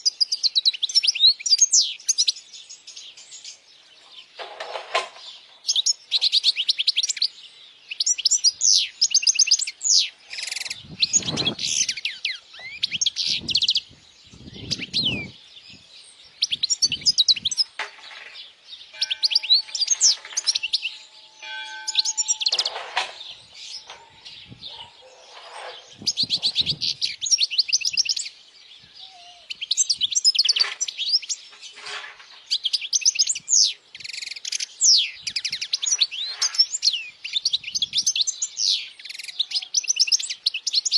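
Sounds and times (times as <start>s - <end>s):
goldfinch singing: 0.0s - 40.9s.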